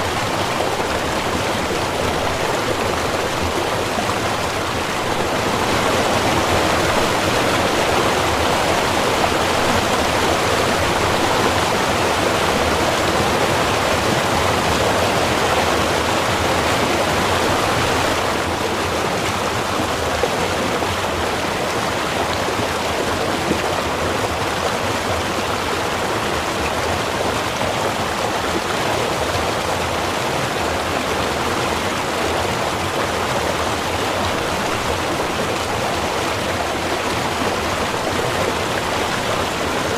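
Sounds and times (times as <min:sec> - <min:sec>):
small river rushing: 0:00.0 - 0:39.9.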